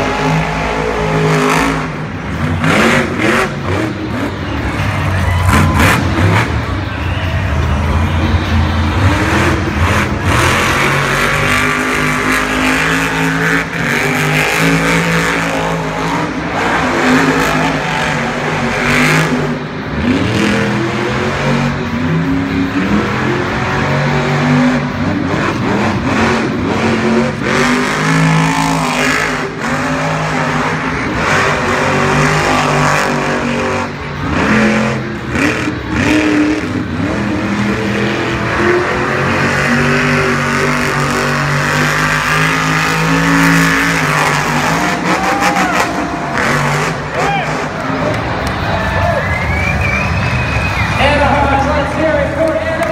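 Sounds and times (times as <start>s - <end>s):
monster truck engines revving: 0.0s - 52.9s.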